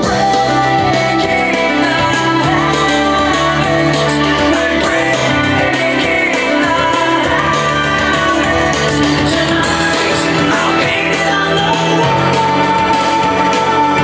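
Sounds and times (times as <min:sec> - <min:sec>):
instrumental rock music: 0:00.0 - 0:14.0.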